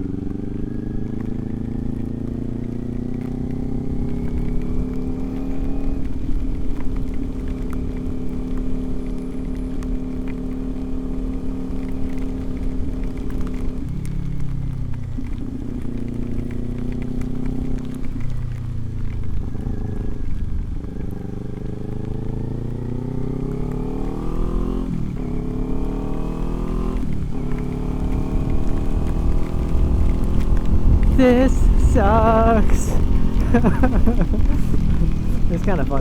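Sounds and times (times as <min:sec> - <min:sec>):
low wind rumble: 0:00.0 - 0:36.0
motorcycle engine accelerating: 0:00.0 - 0:36.0.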